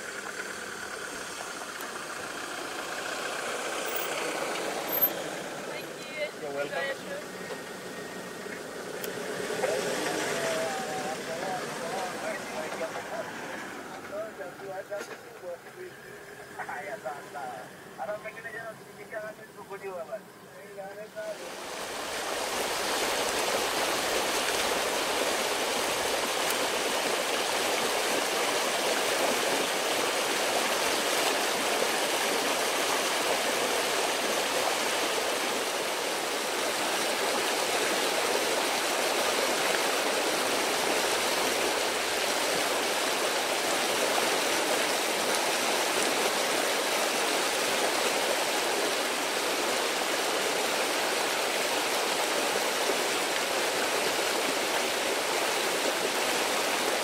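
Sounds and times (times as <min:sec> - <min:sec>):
steady rushing hiss: 0:00.0 - 0:57.0.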